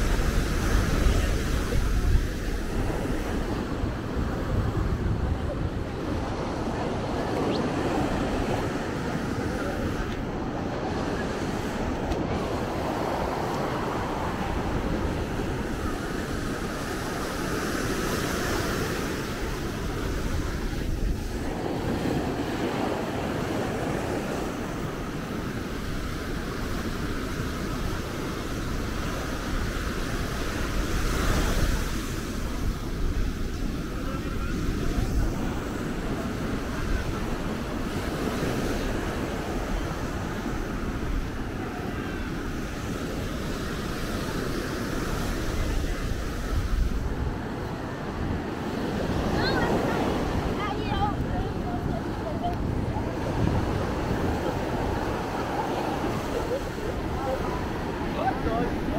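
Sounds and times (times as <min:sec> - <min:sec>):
surf breaking on beach: 0:00.0 - 0:58.9
wind rumbling on microphone: 0:00.0 - 0:58.9.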